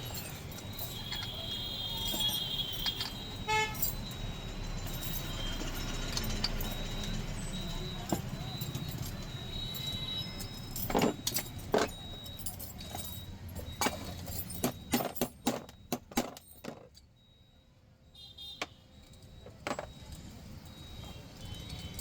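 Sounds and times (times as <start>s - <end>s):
metal clinks and knocks: 0.0s - 17.2s, 18.6s - 22.0s.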